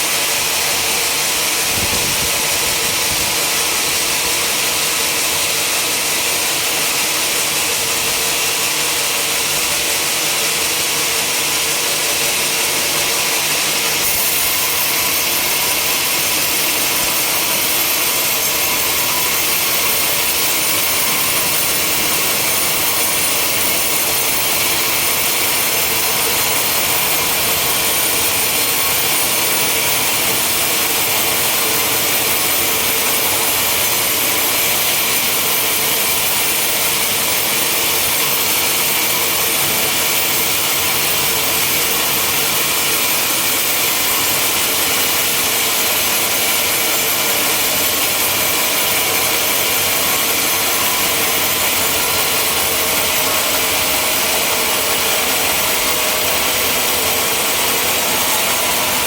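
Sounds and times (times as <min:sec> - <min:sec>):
sawmill saw cutting timber: 0:00.0 - 0:59.0.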